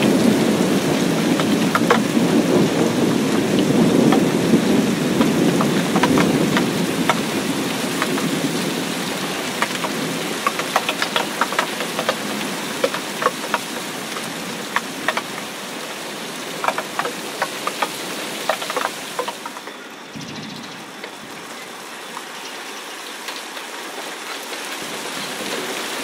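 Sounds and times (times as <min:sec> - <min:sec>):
rain pattering into puddle: 0:00.0 - 0:20.1, 0:20.7 - 0:26.0.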